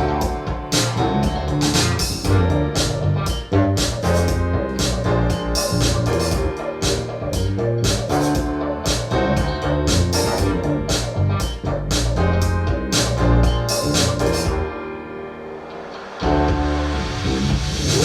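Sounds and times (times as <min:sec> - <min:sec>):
keyboard-led instrumental music: 0:00.0 - 0:18.0.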